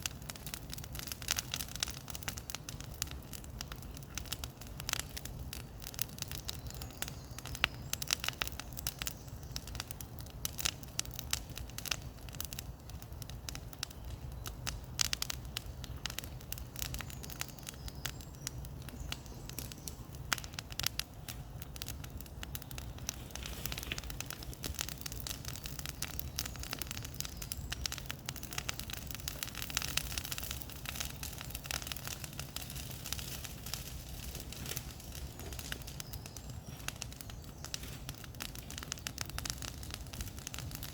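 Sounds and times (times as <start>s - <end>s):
bonfire crackling: 0.0s - 40.9s
sharp snaps and pops: 0.0s - 40.9s.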